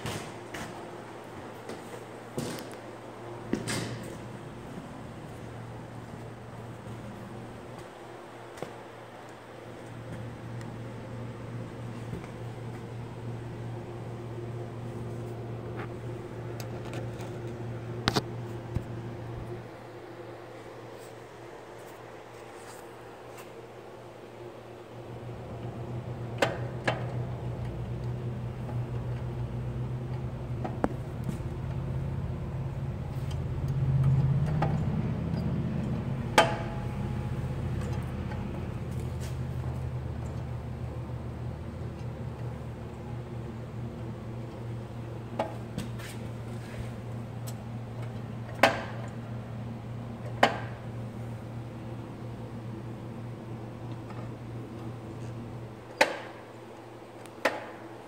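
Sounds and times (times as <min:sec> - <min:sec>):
low machine hum: 0:00.0 - 0:58.0.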